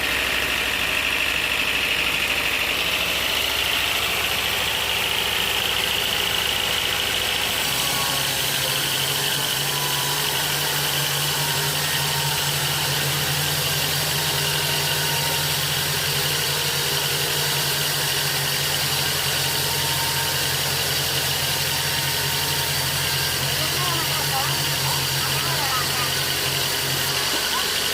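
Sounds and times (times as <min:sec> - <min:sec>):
engine running steadily: 0:00.0 - 0:27.9.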